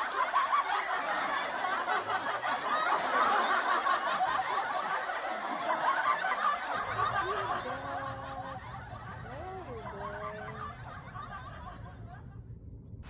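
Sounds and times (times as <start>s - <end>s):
people laughing and chattering: 0.0s - 12.1s
low hum with long tones: 0.5s - 13.0s.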